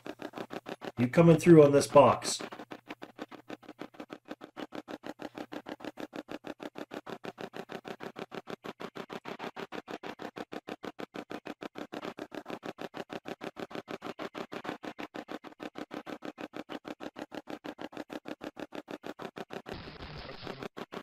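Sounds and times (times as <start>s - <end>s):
choppy sound fragments from phone: 0.0s - 21.0s.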